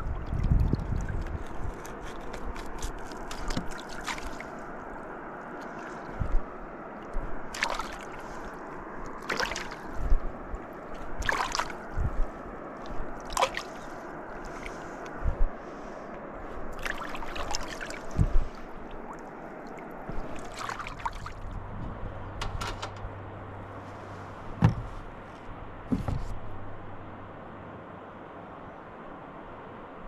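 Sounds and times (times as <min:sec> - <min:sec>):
water sloshing and splashing: 0:00.0 - 0:22.1, 0:23.6 - 0:27.1
river water running: 0:00.0 - 0:30.0.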